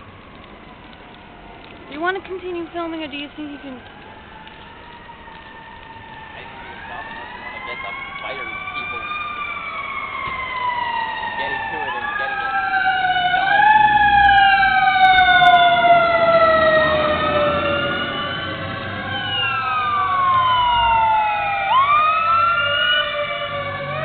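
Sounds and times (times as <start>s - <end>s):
fire engine sirens wailing: 0.0s - 24.0s.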